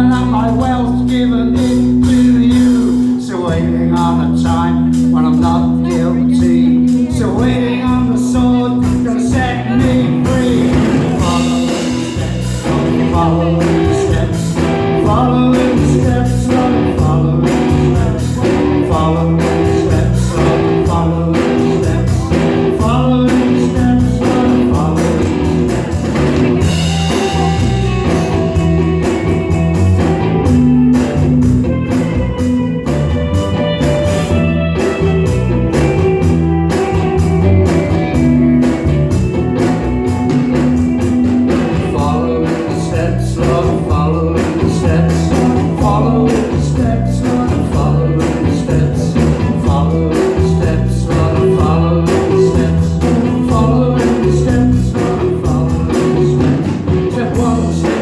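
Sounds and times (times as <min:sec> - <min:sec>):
bass guitar: 0:00.0 - 0:58.0
drums: 0:00.0 - 0:58.0
electric guitars: 0:00.0 - 0:58.0.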